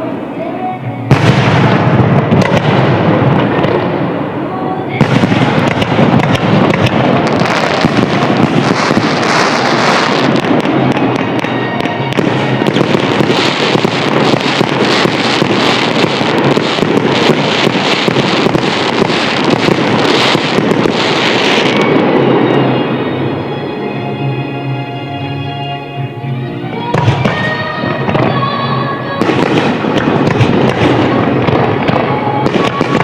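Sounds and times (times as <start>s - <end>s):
fireworks bursting and crackling: 0.0s - 25.8s, 26.7s - 33.0s.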